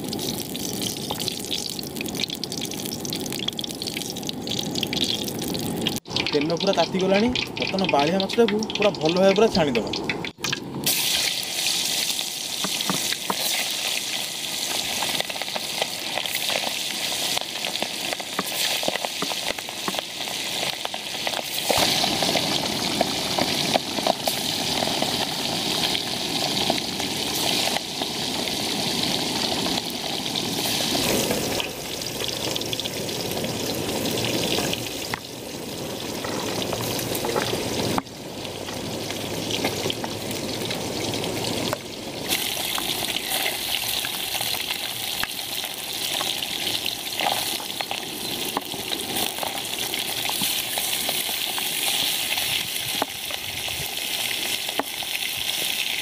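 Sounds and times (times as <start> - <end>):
fish sizzling in hot oil: 0.0 - 56.0.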